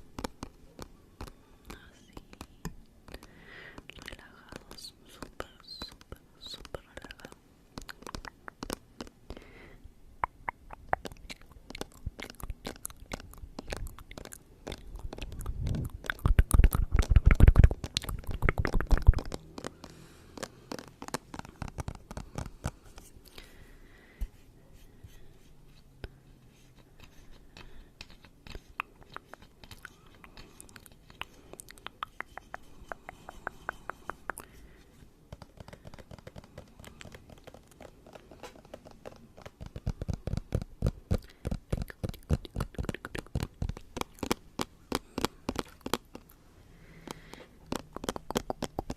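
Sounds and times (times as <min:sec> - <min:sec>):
wet mouth clicks and crackles: 0:00.2 - 0:09.4, 0:10.2 - 0:23.4, 0:27.0 - 0:34.6, 0:35.3 - 0:48.9.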